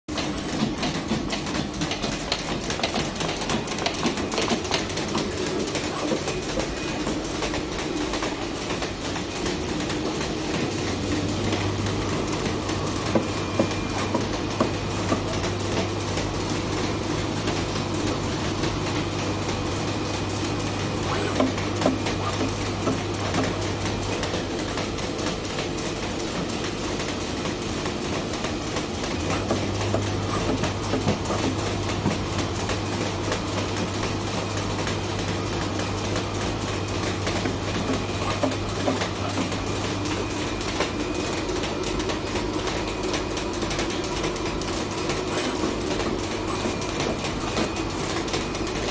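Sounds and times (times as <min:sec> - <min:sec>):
machine clattering with rapid ticks: 0:00.1 - 0:48.9.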